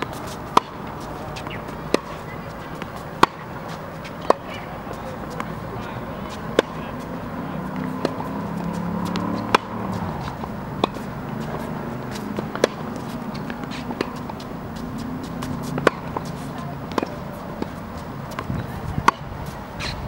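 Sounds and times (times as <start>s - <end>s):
tennis ball struck and bouncing: 0.0s - 19.9s
steady low background noise: 0.0s - 20.0s.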